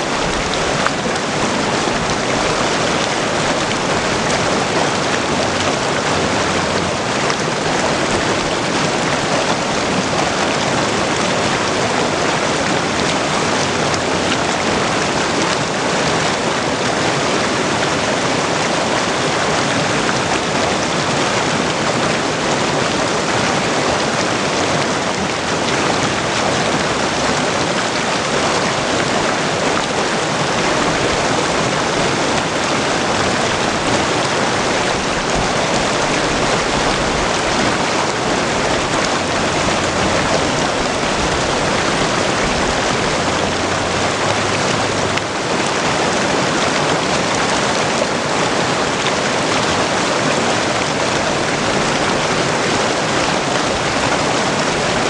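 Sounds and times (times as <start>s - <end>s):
creek rushing over rocks: 0.0s - 55.0s.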